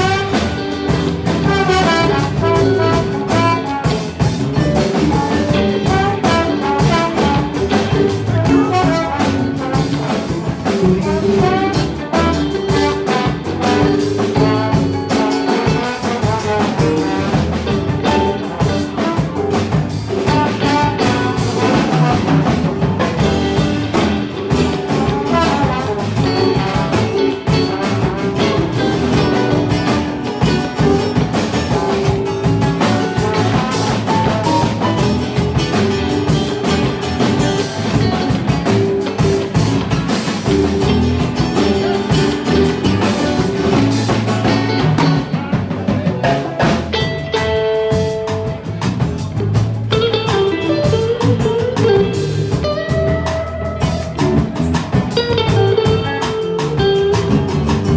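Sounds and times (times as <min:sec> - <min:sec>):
trombone lead line: 0:00.0 - 0:49.4
live band playing instrumental: 0:00.0 - 0:57.9
steady drum beat: 0:00.0 - 0:57.9.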